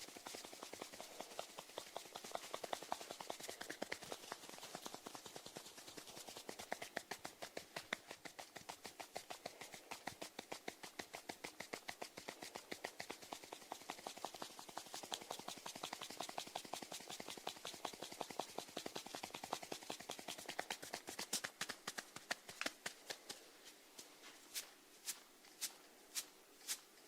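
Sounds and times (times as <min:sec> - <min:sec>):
snails rasping with faint clicks: 0:00.0 - 0:23.4.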